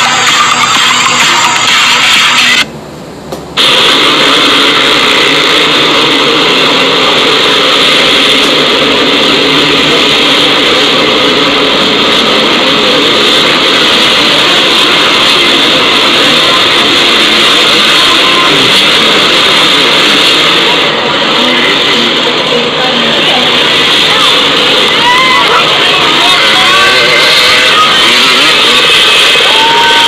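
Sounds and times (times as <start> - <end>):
loud rushing noise: 0.0 - 30.0.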